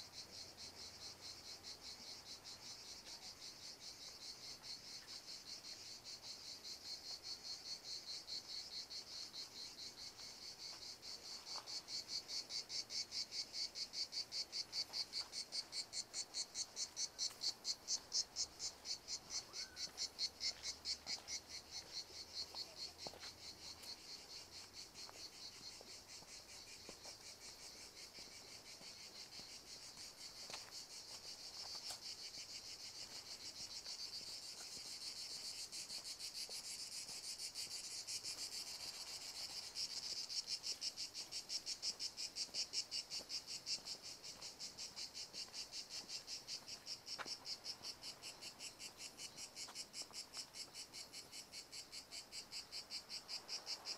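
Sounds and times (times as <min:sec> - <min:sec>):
insects trilling in trees: 0:00.0 - 0:53.9.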